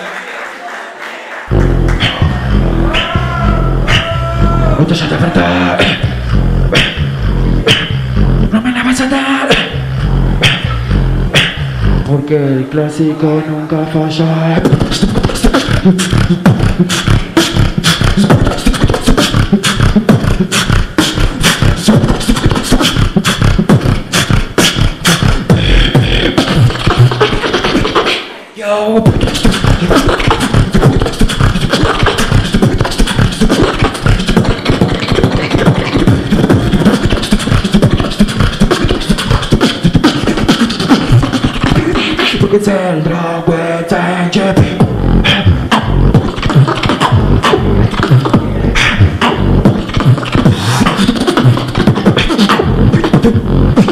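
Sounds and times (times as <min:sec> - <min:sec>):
beatboxing into a microphone: 0:01.4 - 0:53.9
gliding vocal sound: 0:01.4 - 0:53.9
heavy bass: 0:01.5 - 0:12.5, 0:13.6 - 0:28.1, 0:29.0 - 0:53.9.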